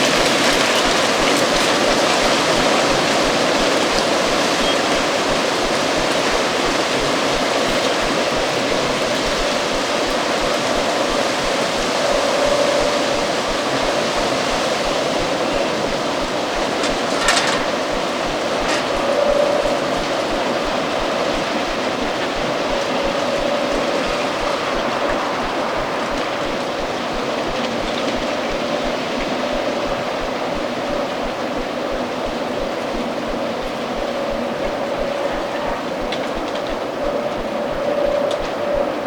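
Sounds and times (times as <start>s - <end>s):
faint wind whistling: 0.0s - 39.0s
stormy wind rushing: 0.0s - 39.0s.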